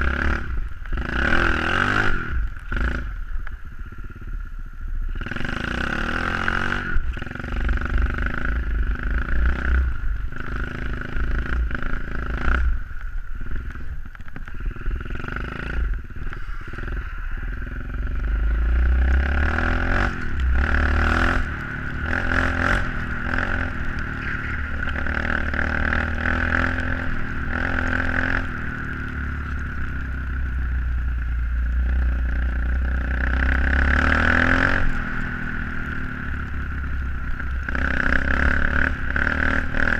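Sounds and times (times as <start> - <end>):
pit bike engine revving: 0.0 - 4.3, 5.1 - 39.9.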